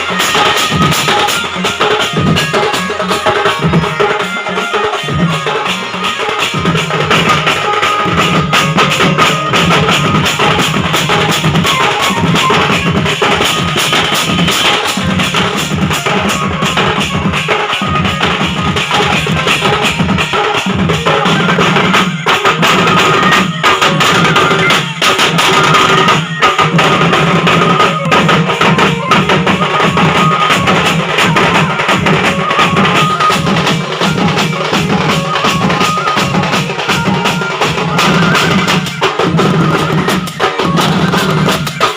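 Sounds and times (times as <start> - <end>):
heavy drumming: 0.0 - 41.9
live band music: 0.0 - 41.9.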